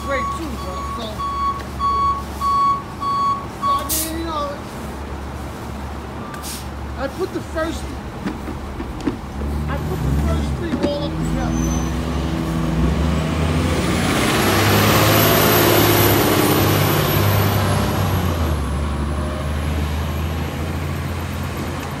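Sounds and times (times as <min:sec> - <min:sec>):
bus engine accelerating: 0:00.0 - 0:22.0.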